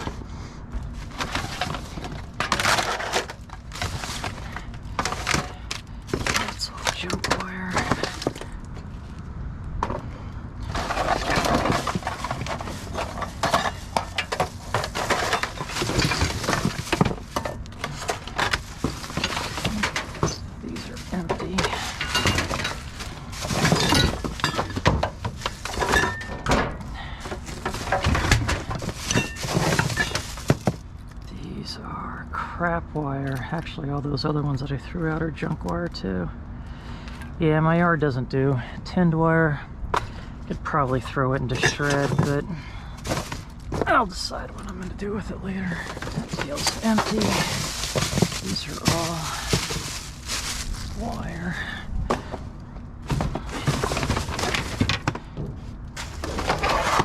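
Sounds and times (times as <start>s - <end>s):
junk knocking and clattering: 0.8s - 8.9s, 9.8s - 31.0s, 39.9s - 44.9s, 45.7s - 57.0s.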